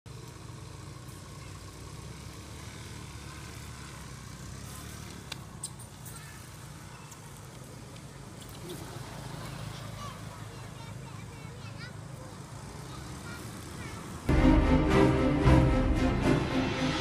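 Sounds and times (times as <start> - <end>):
engine rumble: 0.1 - 17.0.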